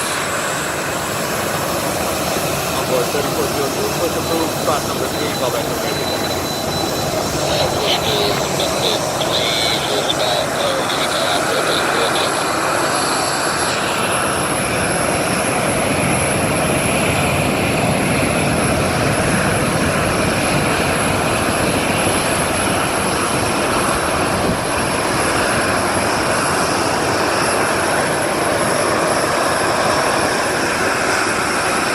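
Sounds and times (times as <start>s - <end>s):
high engine whine: 0.0s - 31.9s
jet engines running: 0.0s - 31.9s.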